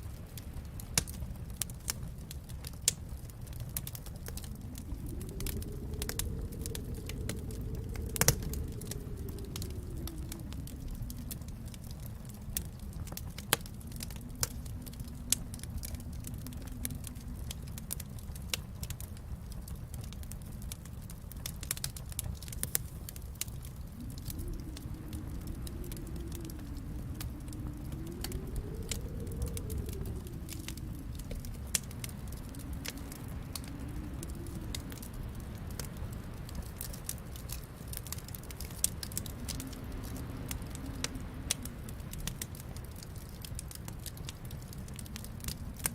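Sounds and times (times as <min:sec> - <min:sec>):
low rumble: 0:00.0 - 0:45.9
wood fire crackling: 0:00.0 - 0:45.9.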